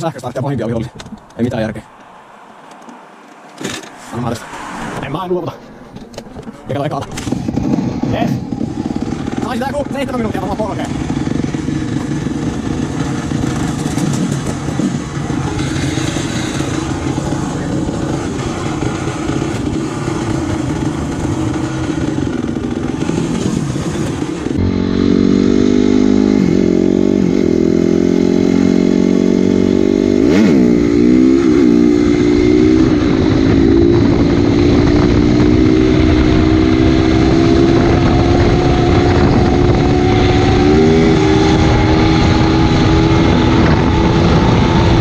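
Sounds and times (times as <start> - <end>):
dirt bike engine: 0.0 - 45.0
dirt bike passing: 0.0 - 45.0.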